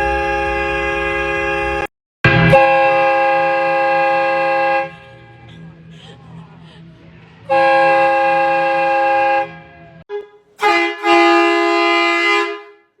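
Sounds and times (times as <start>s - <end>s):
train horn blasts: 0.0s - 5.4s, 7.5s - 13.0s.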